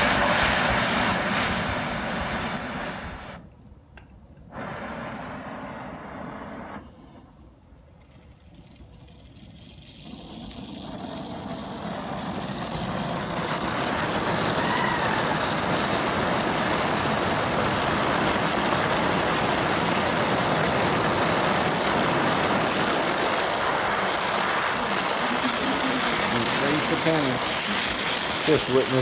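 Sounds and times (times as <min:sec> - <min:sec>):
torch flame hissing: 0:00.0 - 0:03.5, 0:04.5 - 0:07.5, 0:08.4 - 0:29.0.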